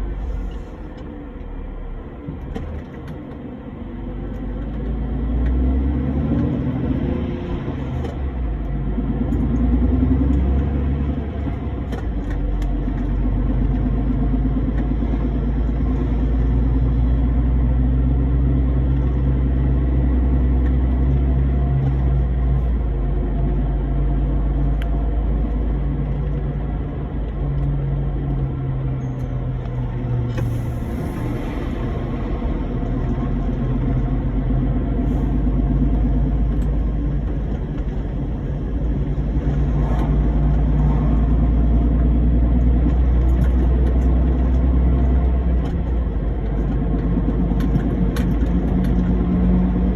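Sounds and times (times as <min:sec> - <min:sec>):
road rumble: 0:00.0 - 0:49.9
truck engine droning: 0:00.0 - 0:49.9.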